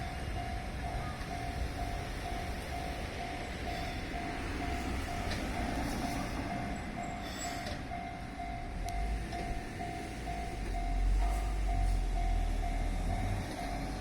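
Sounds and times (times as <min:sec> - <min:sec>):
electric train rumbling: 0:00.0 - 0:14.0
level crossing bell ringing: 0:00.0 - 0:14.0.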